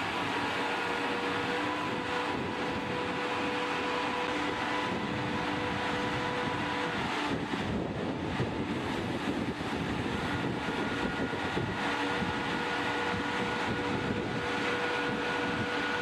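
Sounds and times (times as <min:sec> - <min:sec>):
electric locomotive whining hum: 0:00.0 - 0:16.0
wheels rumbling on rail: 0:00.0 - 0:16.0.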